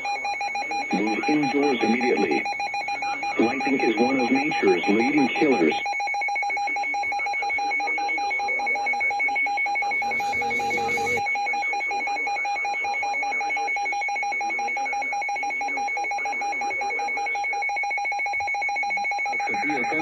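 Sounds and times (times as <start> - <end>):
electronic alarm with rattling pulse: 0.0 - 20.0.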